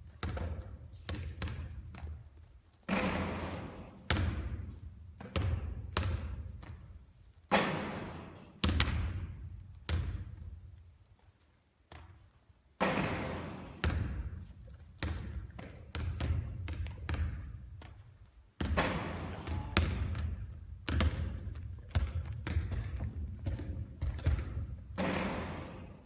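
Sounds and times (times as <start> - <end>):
basketball bouncing: 0.0 - 10.6, 11.9 - 26.0.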